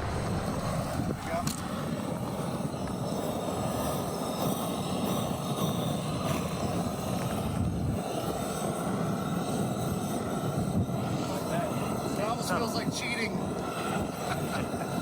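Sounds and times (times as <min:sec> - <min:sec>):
propane torch flame rushing: 0:00.0 - 0:15.0.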